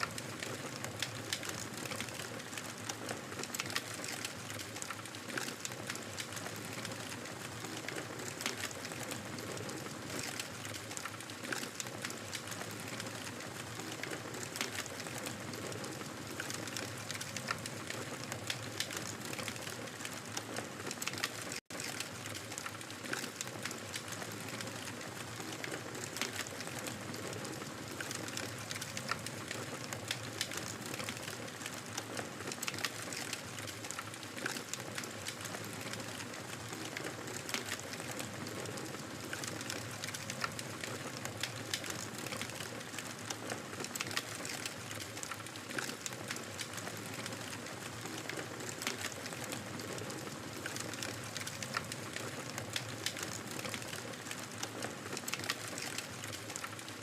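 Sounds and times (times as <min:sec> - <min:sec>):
fire pops and snaps: 0:00.0 - 0:57.0
wood fire crackling: 0:00.0 - 0:57.0.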